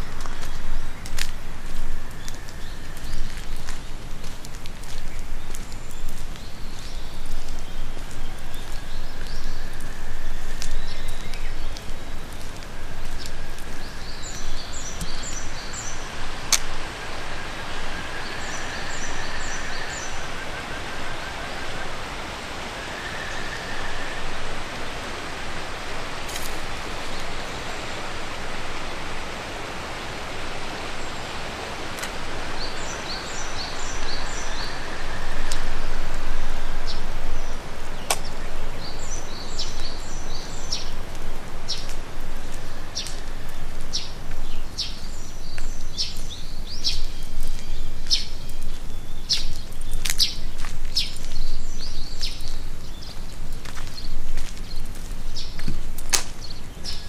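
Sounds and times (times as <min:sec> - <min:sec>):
steady rushing outdoor noise: 0:00.0 - 0:57.0.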